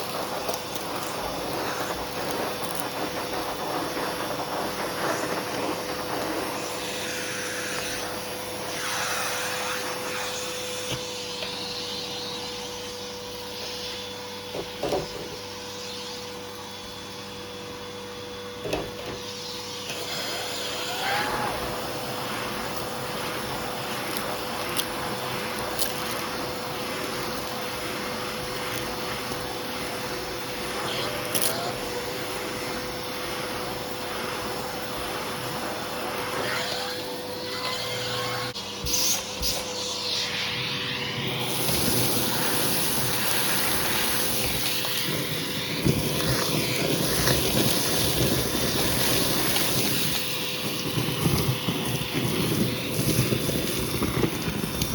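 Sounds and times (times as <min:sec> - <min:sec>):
vacuum cleaner running: 0:00.0 - 0:54.9
vacuum tool rubbing on rug: 0:00.0 - 0:54.9.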